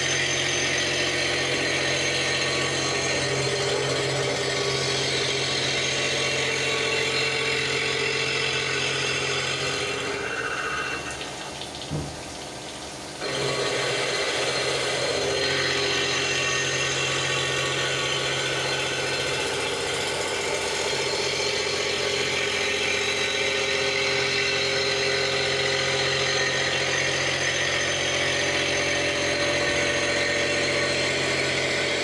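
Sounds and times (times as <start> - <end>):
milling machine cutting metal: 0.0 - 32.0.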